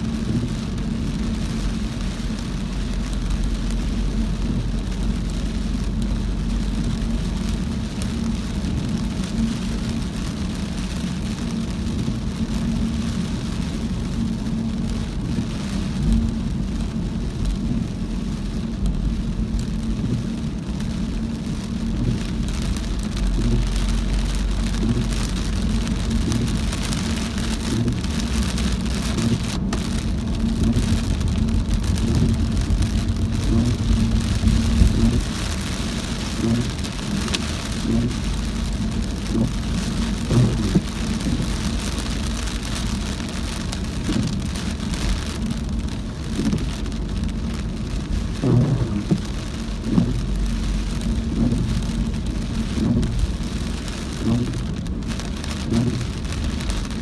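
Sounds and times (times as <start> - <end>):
heavy rain hiss: 0.0 - 57.0
road and engine rumble: 0.0 - 57.0.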